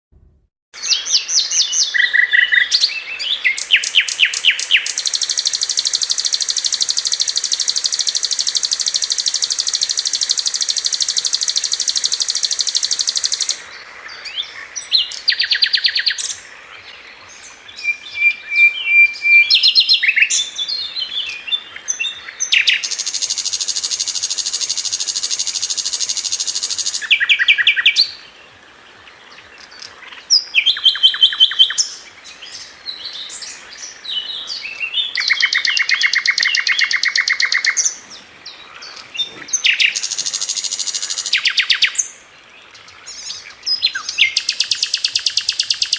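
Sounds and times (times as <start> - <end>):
songbird singing: 0.8 - 45.9.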